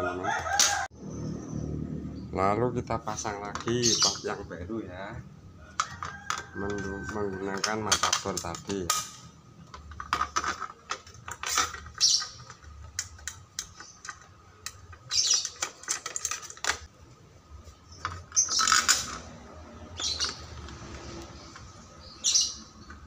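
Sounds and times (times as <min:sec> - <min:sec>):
birds chirping: 0:00.0 - 0:07.9, 0:10.9 - 0:23.0.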